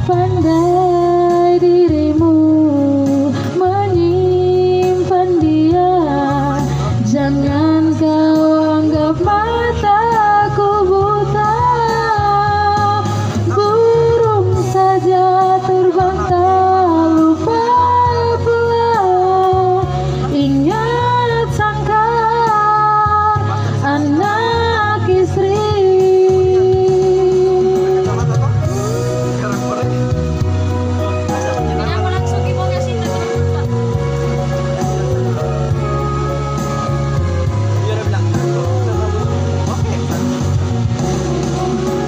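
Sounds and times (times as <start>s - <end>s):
woman singing a slow ballad: 0.0s - 37.7s
low instrumental accompaniment: 0.0s - 42.0s.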